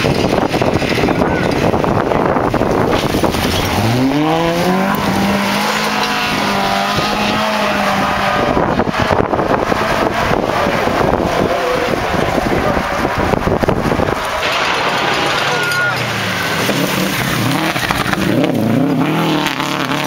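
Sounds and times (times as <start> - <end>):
constant rushing noise: 0.0 - 19.2
rally car engine revving: 0.0 - 20.0.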